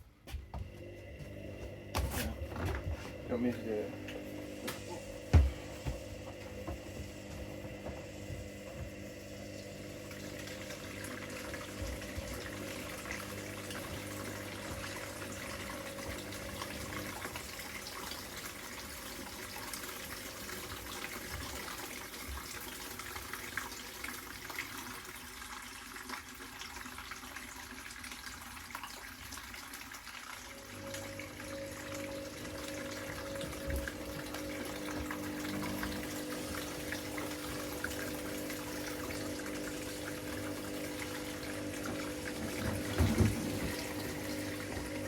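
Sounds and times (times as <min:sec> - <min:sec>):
washing machines humming: 0:00.0 - 0:45.0.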